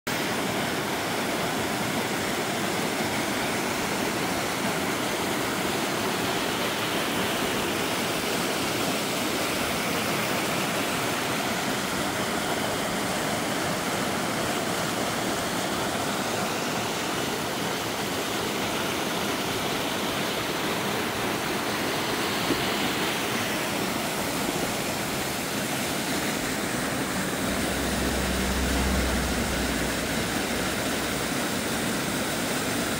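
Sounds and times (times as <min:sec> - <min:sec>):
stream rushing over rocks: 0:00.1 - 0:32.9.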